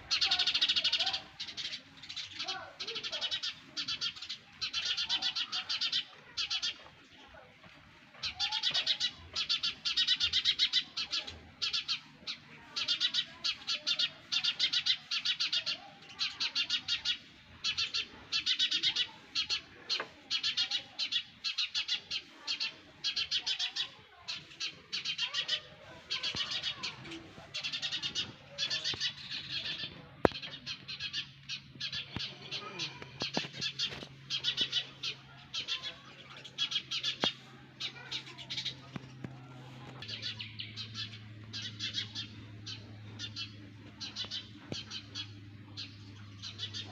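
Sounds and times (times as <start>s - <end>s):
nestlings chirping: 0.0s - 7.4s, 8.2s - 46.9s.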